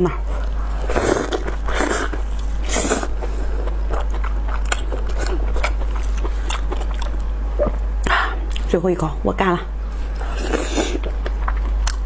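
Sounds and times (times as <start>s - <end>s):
person chewing with wet smacking: 0.0s - 8.8s, 9.9s - 12.0s.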